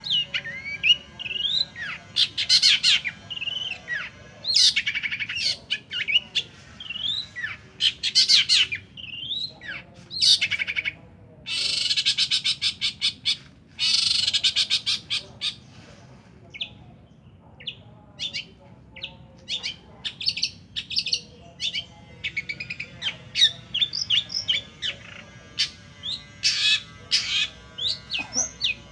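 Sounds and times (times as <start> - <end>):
bird chattering song: 0.0 - 15.7, 16.5 - 28.9
harsh rasping bird calls: 0.0 - 15.9, 16.5 - 28.9.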